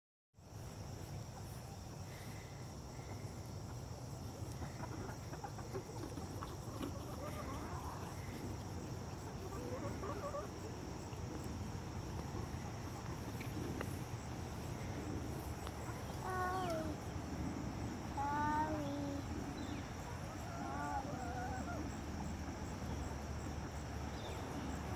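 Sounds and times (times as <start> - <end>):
insects buzzing: 0.4 - 24.9
chickens clucking: 3.1 - 24.9.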